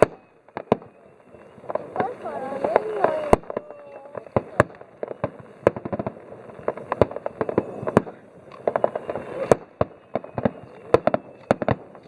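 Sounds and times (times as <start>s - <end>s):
fireworks bangs: 0.0s - 12.0s
fireworks pops and crackles: 0.0s - 12.0s.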